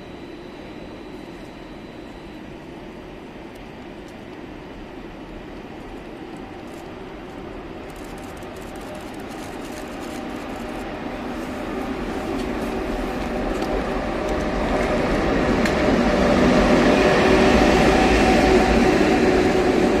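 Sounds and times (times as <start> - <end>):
electric locomotive hum: 0.0 - 20.0
wheel-on-rail noise: 0.0 - 20.0.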